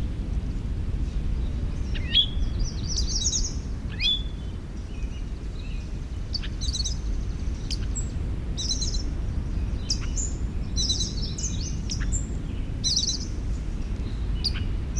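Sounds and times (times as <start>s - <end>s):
low background rumble: 0.0s - 14.9s
songbirds chirping and trilling: 0.3s - 14.9s.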